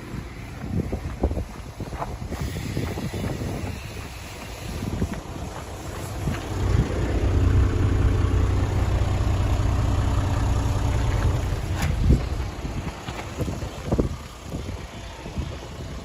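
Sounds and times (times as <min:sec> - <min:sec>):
diesel engine running: 0:03.0 - 0:16.0.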